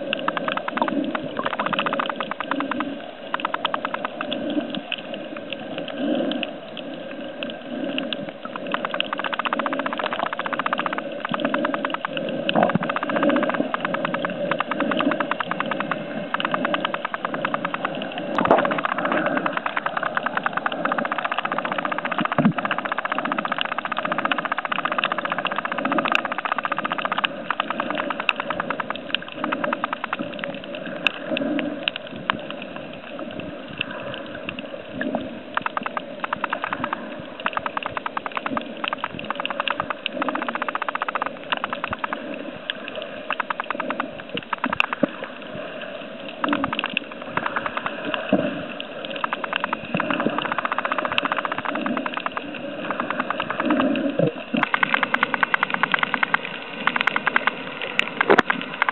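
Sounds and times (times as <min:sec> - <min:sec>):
muffled underwater rush: 0:00.0 - 0:58.9
quick crackling clicks: 0:00.0 - 0:58.9.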